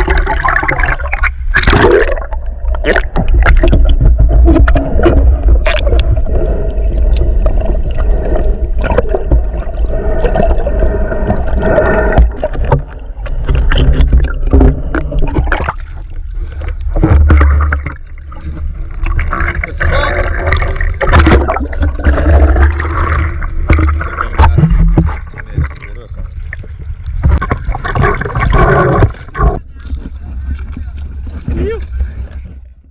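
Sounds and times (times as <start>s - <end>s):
water splashes: 0.0s - 32.8s
water sloshing and rumbling: 0.0s - 32.9s.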